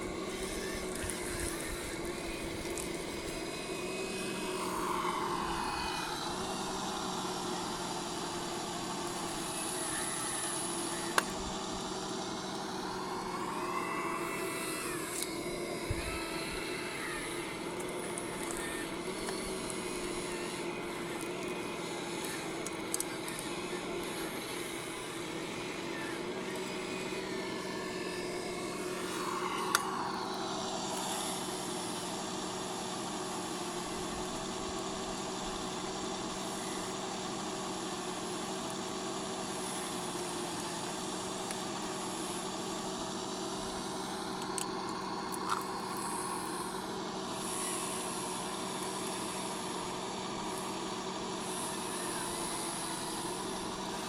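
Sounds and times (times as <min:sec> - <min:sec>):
electric motors whining: 0:00.0 - 0:54.0.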